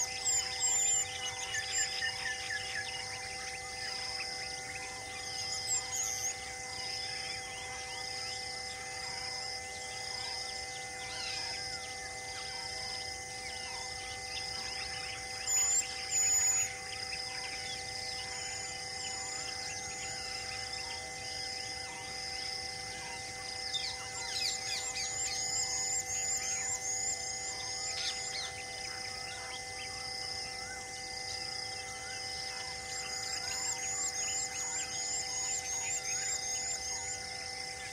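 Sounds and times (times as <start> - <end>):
steady hum of constant tones: 0.0 - 37.9.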